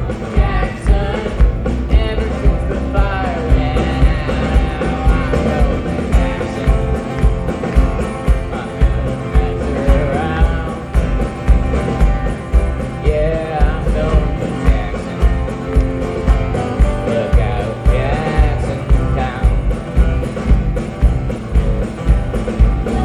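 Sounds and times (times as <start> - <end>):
person singing: 0.0 - 20.5, 22.4 - 23.0
country-rock band playing: 0.0 - 23.0
heavy kick drum beat: 0.0 - 23.0.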